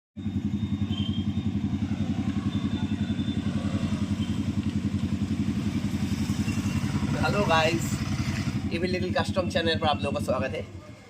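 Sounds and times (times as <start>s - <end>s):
motorcycle engine idling: 0.2s - 11.0s.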